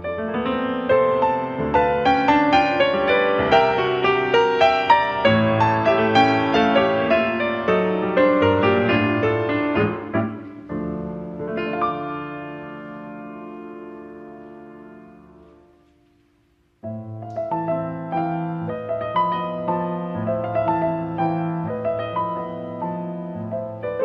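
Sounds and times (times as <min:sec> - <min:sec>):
classical piano playing: 0:00.0 - 0:24.0.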